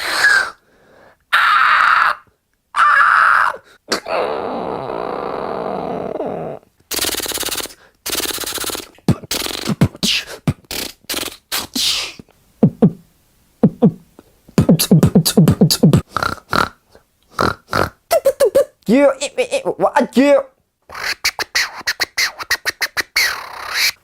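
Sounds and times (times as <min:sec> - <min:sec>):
man making mouth sound effects: 0:03.9 - 0:20.0, 0:20.9 - 0:24.0.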